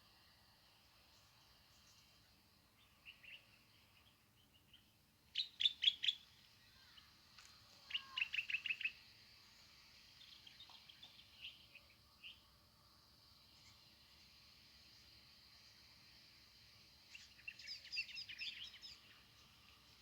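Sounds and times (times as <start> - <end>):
small birds chirping: 1.0 - 20.0.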